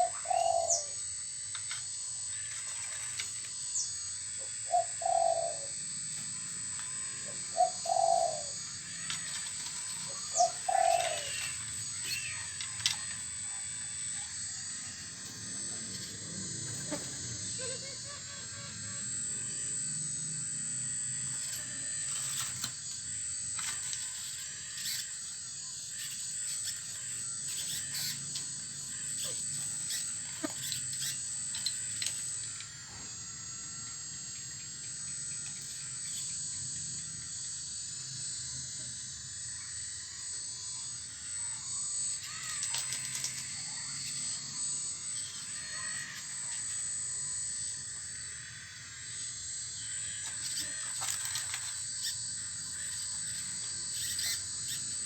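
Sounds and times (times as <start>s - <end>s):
high motor whine: 0.0s - 55.0s.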